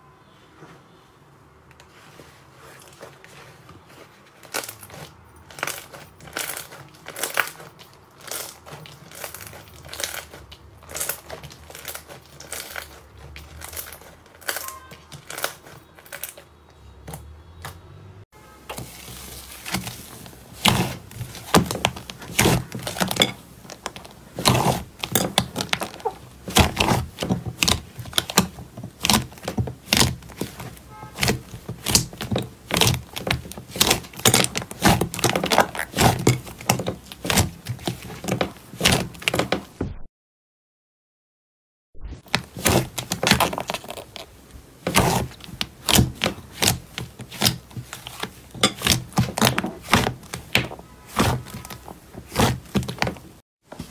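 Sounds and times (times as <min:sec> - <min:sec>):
hands squishing sticky slime: 0:01.9 - 0:16.4, 0:18.8 - 0:39.7, 0:42.2 - 0:53.9.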